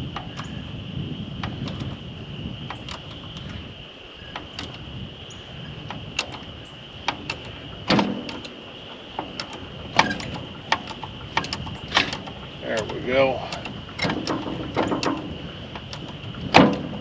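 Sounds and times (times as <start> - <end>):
metal clicks and knocks: 0.0 - 0.6, 1.4 - 3.6, 4.2 - 4.9, 5.7 - 17.0
high-pitched hiss: 0.0 - 17.0.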